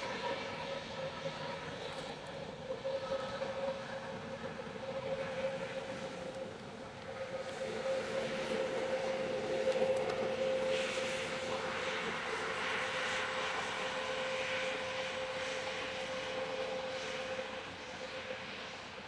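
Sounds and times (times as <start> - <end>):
airliner engines running: 0.0 - 19.0.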